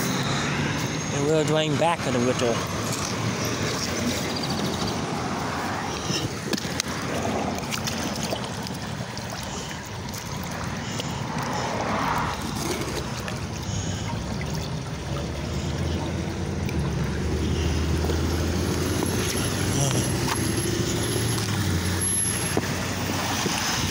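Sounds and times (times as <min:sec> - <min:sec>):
low vehicle engine hum: 0:00.0 - 0:23.9
water trickling along gutter: 0:00.0 - 0:23.9.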